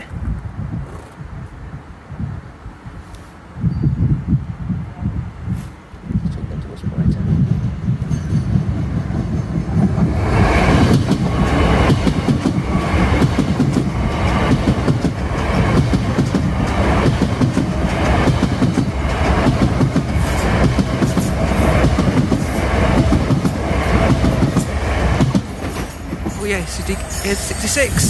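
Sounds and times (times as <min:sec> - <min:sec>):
train passing with rumble: 0:00.0 - 0:28.0.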